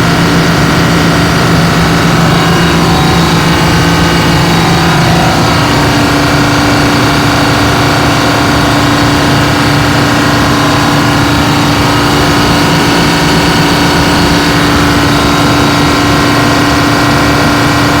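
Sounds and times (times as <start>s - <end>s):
diesel generator running: 0.0s - 18.0s
strong steady hum: 0.0s - 18.0s.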